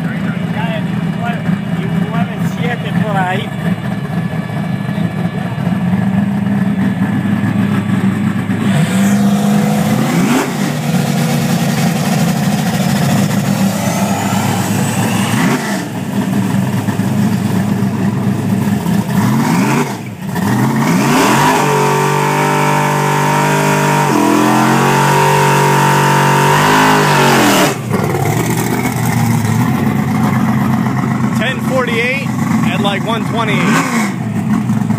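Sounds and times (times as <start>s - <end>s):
car engine running nearby: 0.0s - 34.9s
drag car accelerating: 0.0s - 34.9s.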